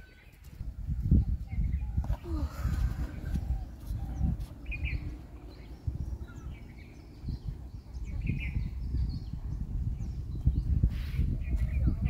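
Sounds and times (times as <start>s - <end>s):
birds chirping: 0.0s - 12.0s
low rumbling noise: 0.6s - 12.0s.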